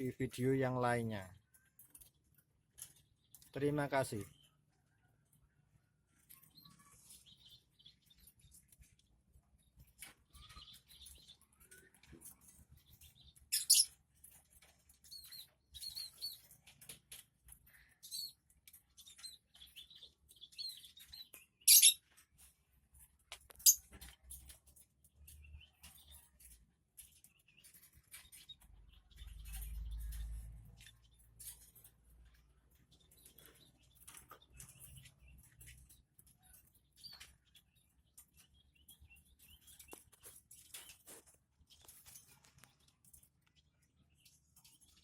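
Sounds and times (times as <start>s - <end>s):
small clicks and scratches: 1.4s - 3.6s, 6.1s - 45.0s
soft bird chirps: 2.8s - 14.0s, 17.5s - 22.5s, 23.4s - 45.0s.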